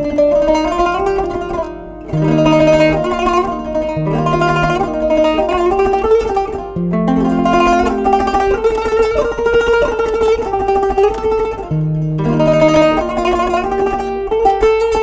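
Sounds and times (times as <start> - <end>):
plucked zither melody: 0.0 - 15.0.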